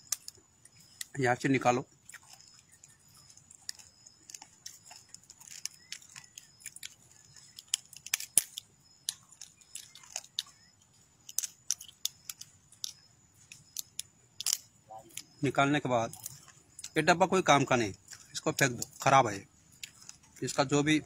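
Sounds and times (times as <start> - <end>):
crab shell cracking: 0.0 - 1.2, 1.9 - 15.4, 16.1 - 17.0, 17.7 - 20.6.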